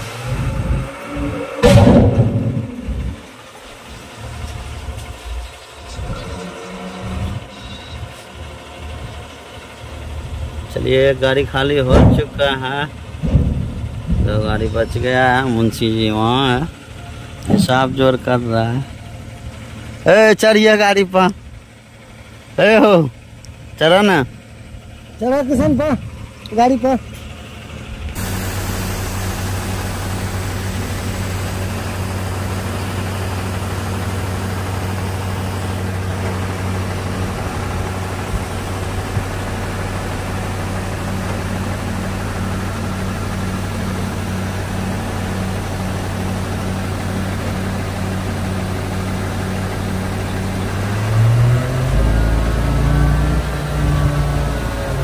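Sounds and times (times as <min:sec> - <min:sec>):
diesel truck engine idling and revving: 0:00.0 - 0:55.0.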